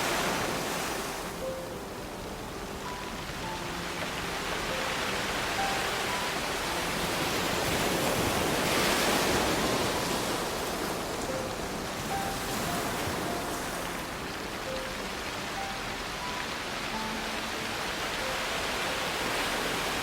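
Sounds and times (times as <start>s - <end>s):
soft faint music notes: 0.0s - 20.0s
surf on pebble beach: 0.0s - 20.0s.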